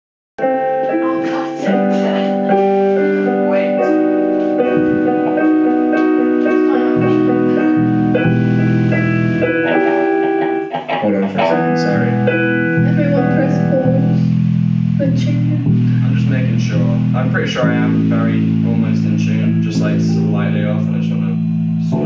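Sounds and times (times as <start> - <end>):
deep low keyboard notes: 0.4 - 22.0
keyboard playing chords: 0.4 - 22.0.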